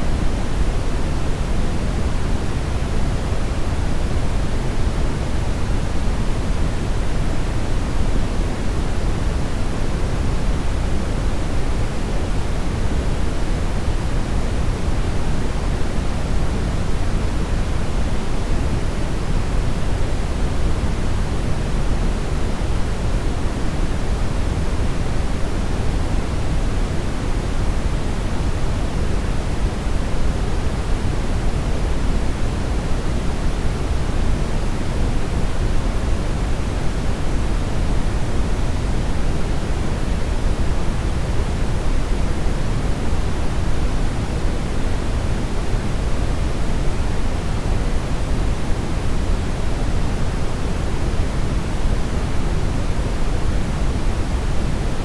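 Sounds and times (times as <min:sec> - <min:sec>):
brown noise hiss: 0:00.0 - 0:55.0.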